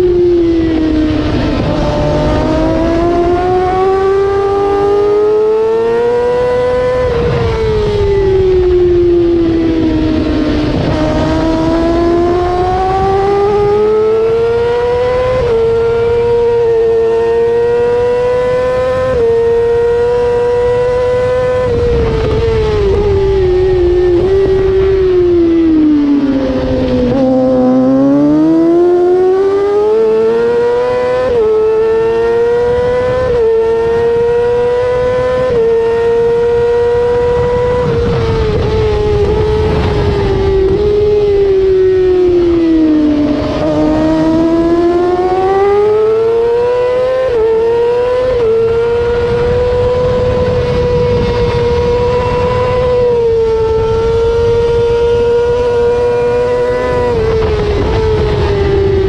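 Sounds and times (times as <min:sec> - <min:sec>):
race motorcycle engine: 0:00.0 - 0:59.0
wind rush: 0:00.0 - 0:59.0.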